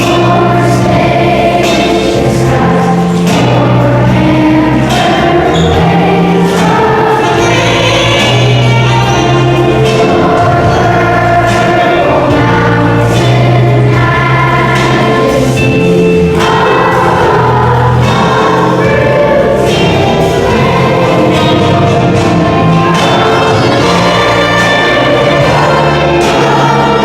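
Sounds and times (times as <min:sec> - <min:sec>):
choir singing: 0:00.0 - 0:27.0
instrumental accompaniment: 0:00.0 - 0:27.0.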